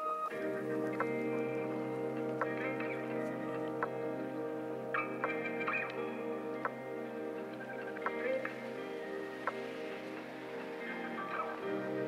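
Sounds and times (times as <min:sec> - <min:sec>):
ambient music chords: 0:00.0 - 0:12.0.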